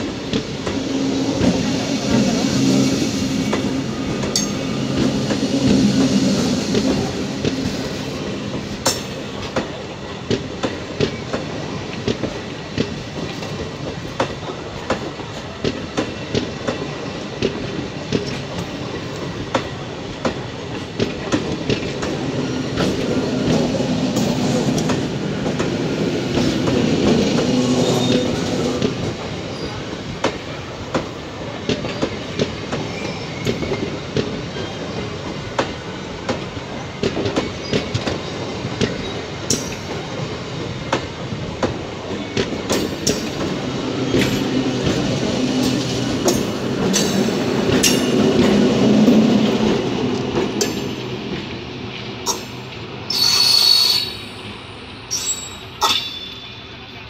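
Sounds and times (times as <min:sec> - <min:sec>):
train wheels clicking over rail joints: 0:03.4 - 0:54.1.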